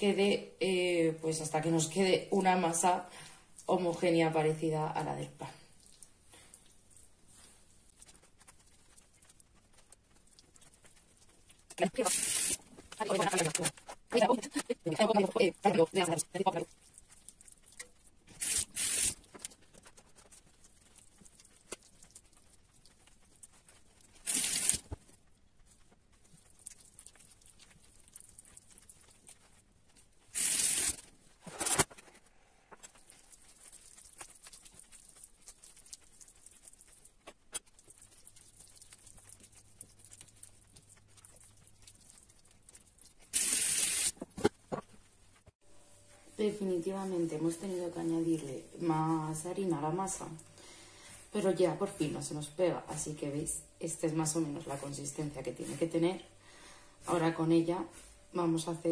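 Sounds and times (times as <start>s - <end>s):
hands kneading wet dough: 0.1s - 31.4s, 32.2s - 56.4s.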